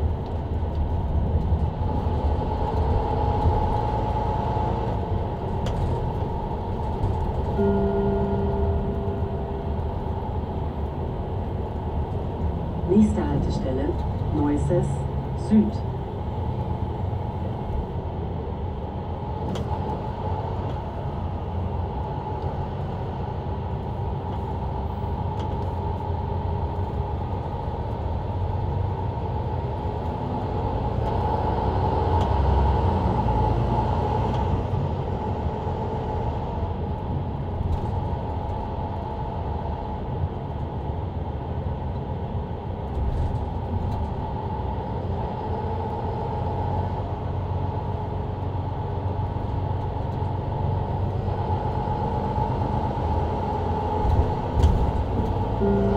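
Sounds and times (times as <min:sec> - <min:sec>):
bus engine running: 0:00.0 - 0:55.9
road and tyre noise: 0:00.0 - 0:55.9.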